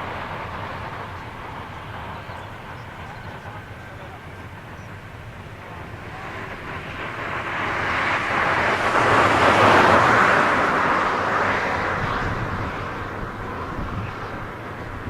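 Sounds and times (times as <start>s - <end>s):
aircraft passing by: 0.0s - 15.0s.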